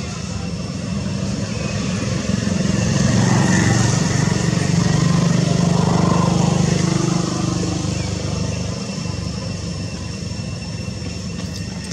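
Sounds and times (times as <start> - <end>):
small engine running: 0.0 - 11.9.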